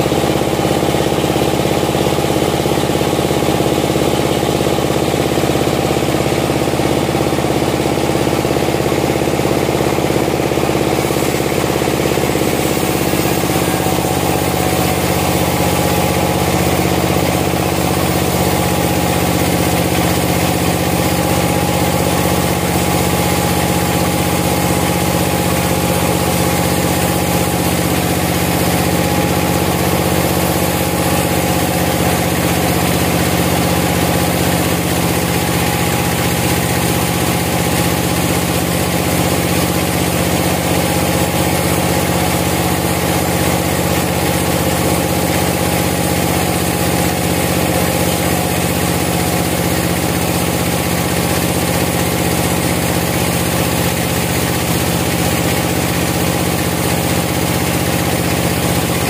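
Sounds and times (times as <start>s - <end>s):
band saw cutting wood: 10.6s - 59.0s.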